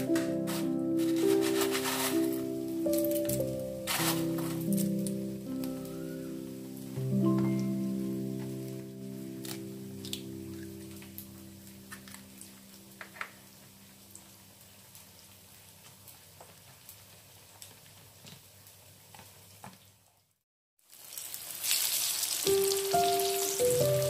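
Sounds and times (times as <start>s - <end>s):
hot oil sizzling: 0.0s - 20.1s, 20.8s - 24.0s.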